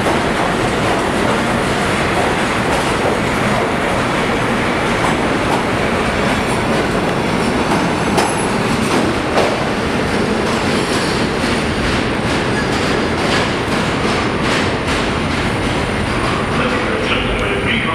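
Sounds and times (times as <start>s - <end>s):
subway train running on rails: 0.0s - 17.9s.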